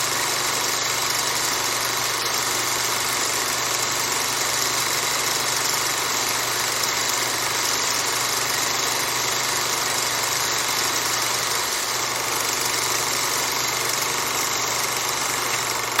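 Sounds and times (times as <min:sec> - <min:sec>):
projector cooling fan rushing: 0:00.0 - 0:16.0.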